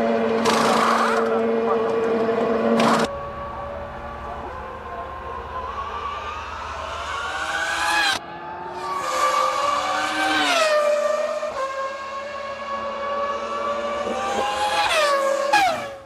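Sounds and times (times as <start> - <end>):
racing car engines revving: 0.0 - 16.0.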